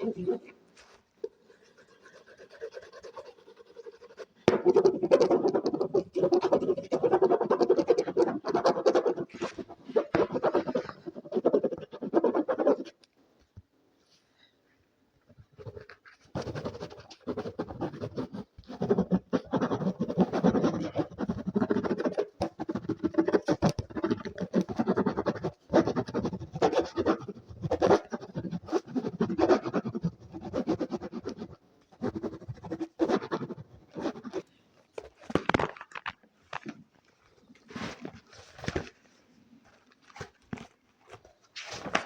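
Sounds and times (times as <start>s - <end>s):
fast scratching close to microphone: 0.0s - 13.0s, 15.4s - 36.8s, 37.6s - 42.0s.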